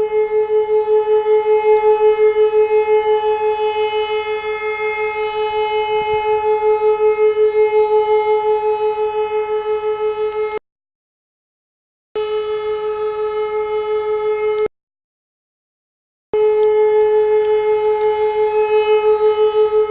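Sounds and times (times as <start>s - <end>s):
high pulsing alarm: 0.0s - 10.6s, 12.2s - 14.7s, 16.4s - 19.9s.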